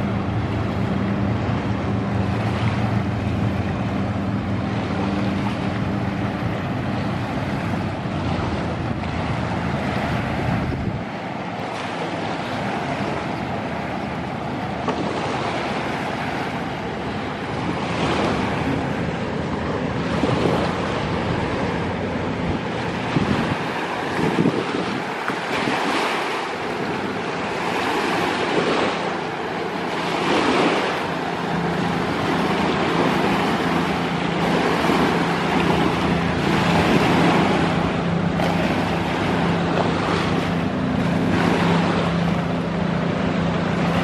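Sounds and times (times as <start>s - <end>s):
boat engine humming: 0.0s - 44.0s
wind on microphone: 0.0s - 44.0s.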